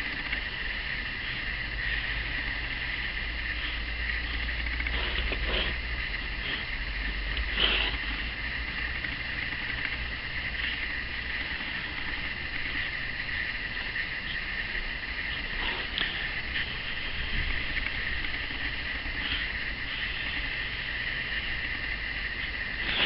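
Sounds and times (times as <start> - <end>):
low hum: 0.0 - 23.0
steady hiss: 0.0 - 23.0.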